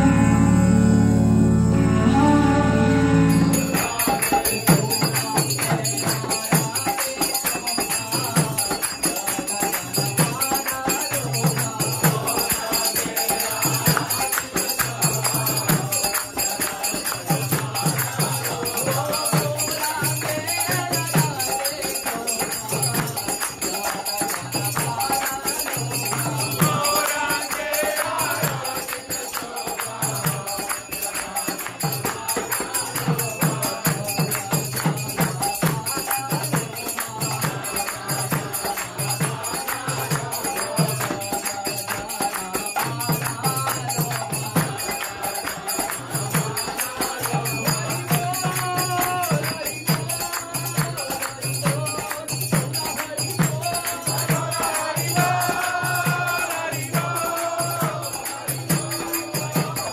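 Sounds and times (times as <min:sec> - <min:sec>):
small hand cymbals ringing: 0:03.1 - 0:59.9
drum beating a steady rhythm: 0:03.2 - 0:59.9
hand clapping: 0:03.8 - 0:59.9.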